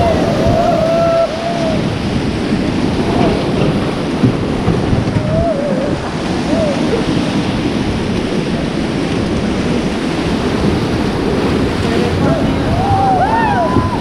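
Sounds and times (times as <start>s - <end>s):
whitewater rapids roaring: 0.0s - 14.0s
wind buffeting microphone: 0.0s - 14.0s.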